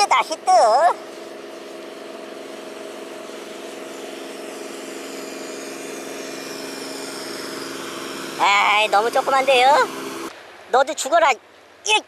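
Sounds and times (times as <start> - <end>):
boat engine droning: 0.0 - 10.3.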